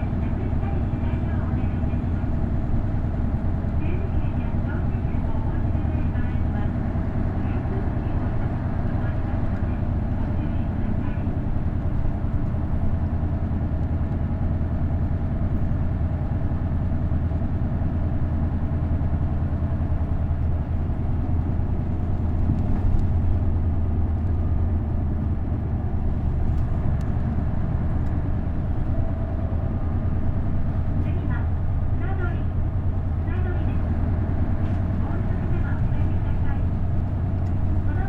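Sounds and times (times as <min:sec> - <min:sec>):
bus diesel engine droning: 0:00.0 - 0:38.0.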